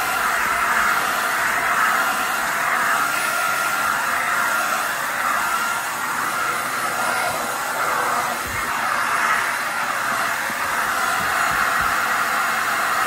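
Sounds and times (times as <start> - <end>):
stick vacuum motor whining: 0.0 - 13.0.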